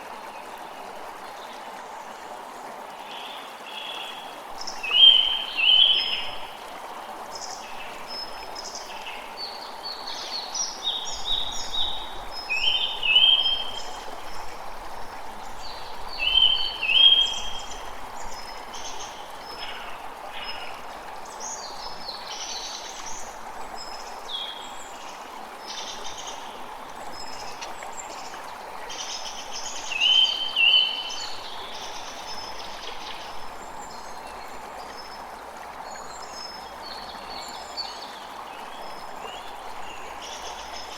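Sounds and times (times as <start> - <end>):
creek rushing: 0.0 - 40.9.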